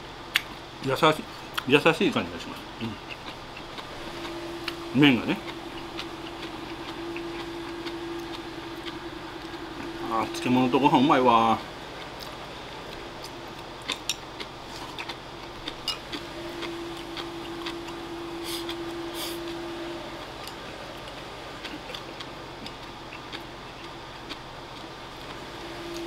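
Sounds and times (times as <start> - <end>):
faint steady hum: 0.0 - 26.0
man eating: 2.3 - 26.0.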